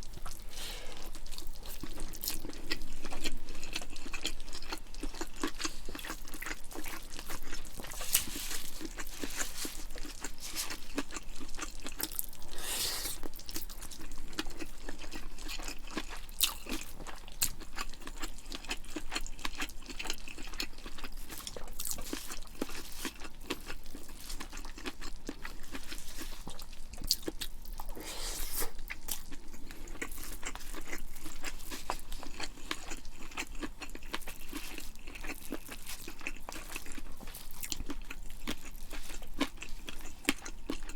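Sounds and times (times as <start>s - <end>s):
chewing food crunching: 0.0s - 40.9s.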